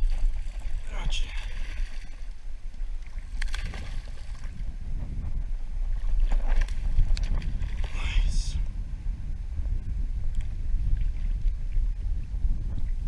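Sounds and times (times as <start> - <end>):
water noise around boat: 0.0 - 13.0
wind rumbling on microphone: 0.0 - 13.0.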